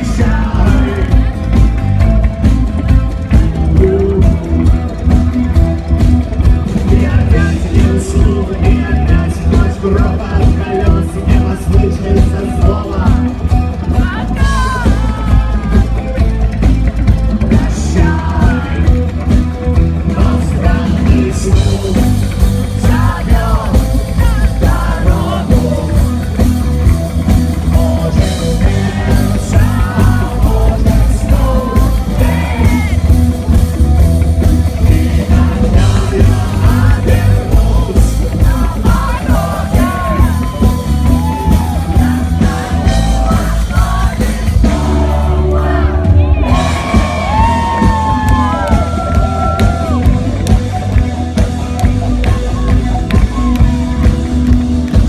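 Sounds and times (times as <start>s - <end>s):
person singing: 0.0s - 2.0s, 3.0s - 5.6s, 6.6s - 16.6s, 17.4s - 54.5s
live rock band playing: 0.0s - 55.0s.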